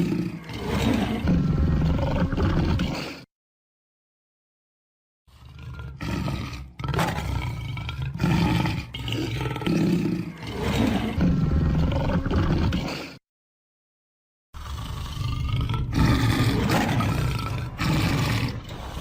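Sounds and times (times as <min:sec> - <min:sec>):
lion roaring: 0:00.0 - 0:03.2, 0:05.3 - 0:13.2, 0:14.6 - 0:19.0.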